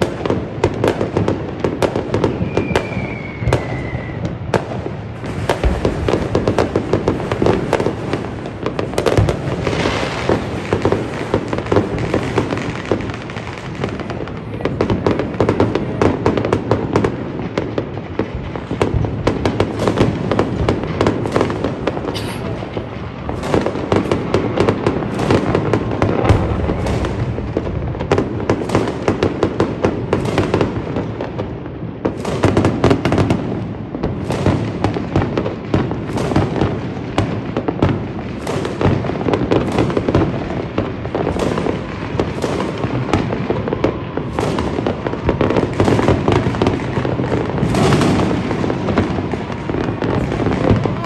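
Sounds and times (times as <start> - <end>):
fireworks cracking and banging: 0.0 - 51.0.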